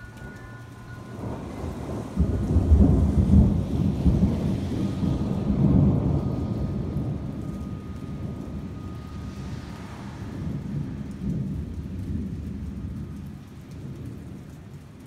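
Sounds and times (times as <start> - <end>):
thunder rumbling and crashing: 0.0 - 14.4.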